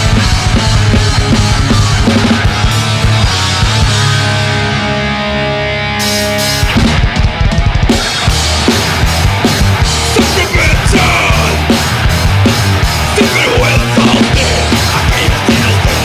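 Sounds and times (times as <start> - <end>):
fast driving drums and cymbals: 0.0 - 4.3, 6.4 - 16.0
thrash metal band playing: 0.0 - 16.0.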